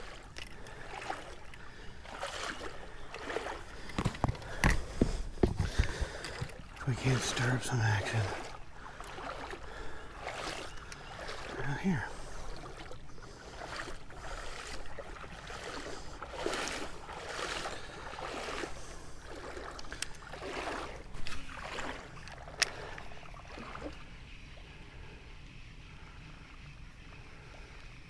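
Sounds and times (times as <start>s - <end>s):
creek water splashing: 0.0s - 25.1s.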